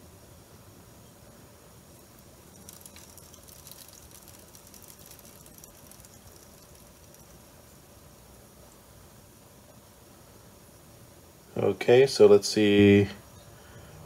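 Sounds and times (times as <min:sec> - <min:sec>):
crackly tape hiss: 0:00.0 - 0:14.0.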